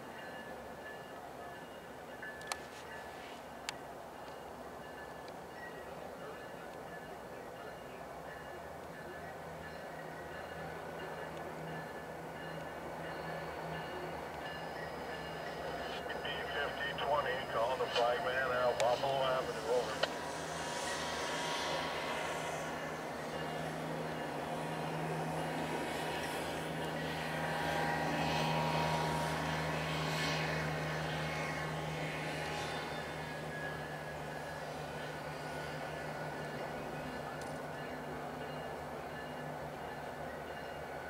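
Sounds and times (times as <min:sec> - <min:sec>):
diesel locomotive engine running: 0:00.0 - 0:41.0.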